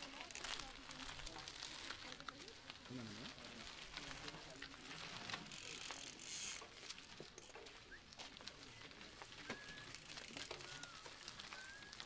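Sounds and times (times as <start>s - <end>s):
bike tyres on cobblestones: 0.0s - 12.0s
small bike clicks: 0.0s - 12.0s.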